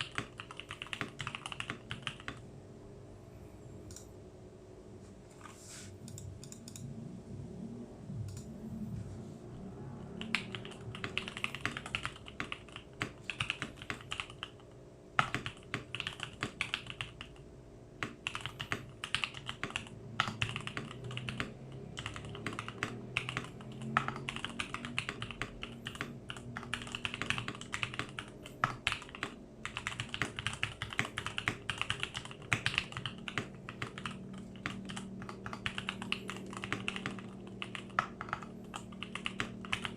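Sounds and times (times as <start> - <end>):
mechanical keyboard typing: 0.0 - 2.4, 6.1 - 6.9, 10.2 - 17.4, 18.0 - 39.9.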